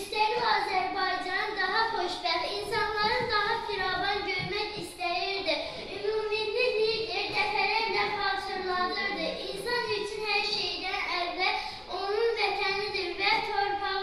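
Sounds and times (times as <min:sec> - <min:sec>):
girl singing into microphone: 0:00.0 - 0:14.0.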